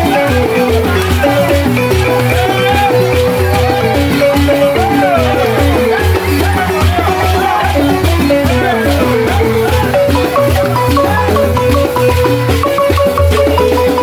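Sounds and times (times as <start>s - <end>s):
wooden xylophone music: 0.0s - 14.0s.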